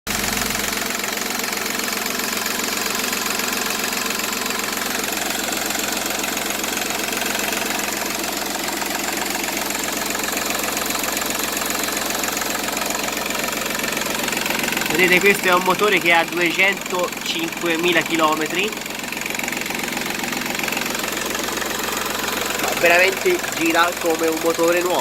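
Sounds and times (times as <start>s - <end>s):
diesel engine idling: 0.1s - 25.0s.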